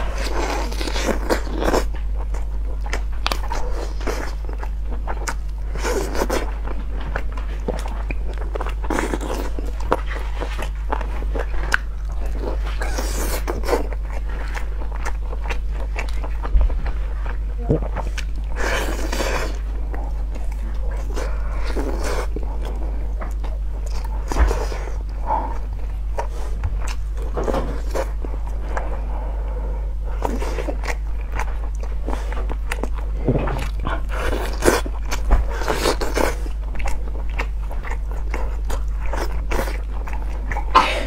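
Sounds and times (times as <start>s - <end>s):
chewing and tearing meat: 0.0s - 41.0s
steady low hum: 0.0s - 41.0s.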